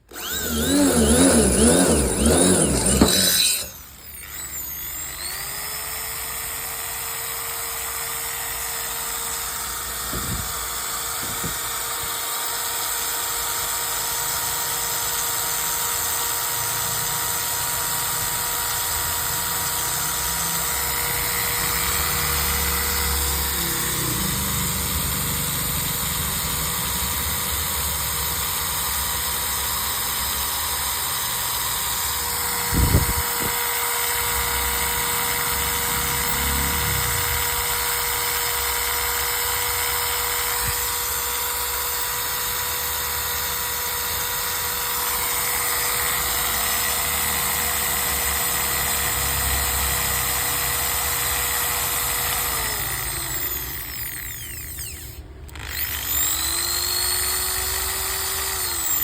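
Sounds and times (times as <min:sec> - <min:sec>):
motor spinning down: 0:00.0 - 0:14.4, 0:15.0 - 0:59.0
electric drill whine: 0:00.0 - 0:59.0.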